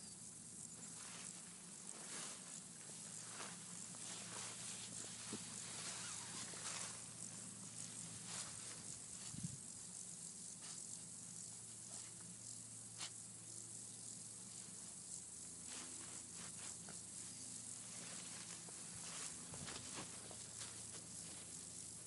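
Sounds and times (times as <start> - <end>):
faint low hum: 0.0 - 22.0
steady hiss: 0.0 - 22.0
tall grass rustling: 0.6 - 22.0.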